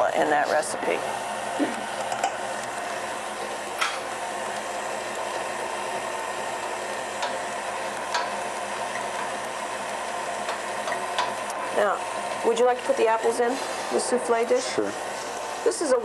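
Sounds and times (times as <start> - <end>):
stand mixer motor humming: 0.0 - 16.0.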